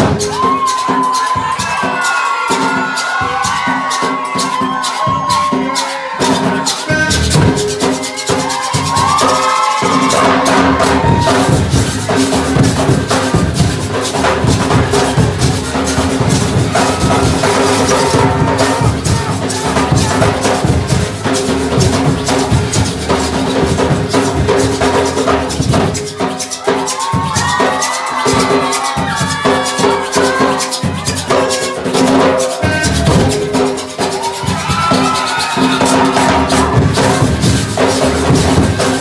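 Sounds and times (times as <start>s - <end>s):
hand drums: 0.0s - 39.0s
metal shakers: 0.0s - 39.0s.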